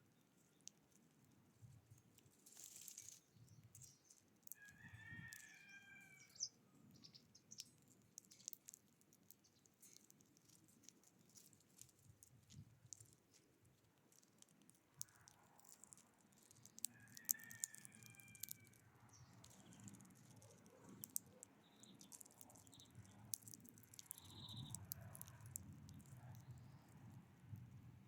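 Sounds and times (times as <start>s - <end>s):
small clicks and taps: 0.5s - 5.6s, 7.5s - 27.6s.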